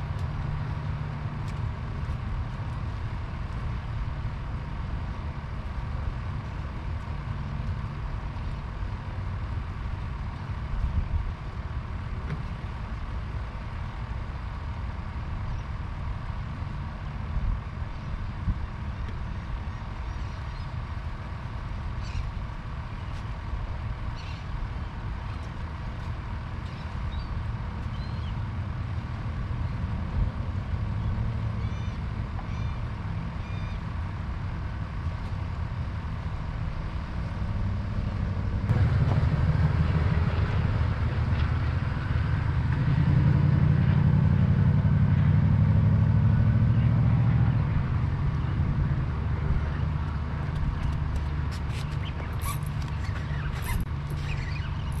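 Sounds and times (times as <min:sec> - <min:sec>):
distant road traffic rumble: 0:00.0 - 0:55.0.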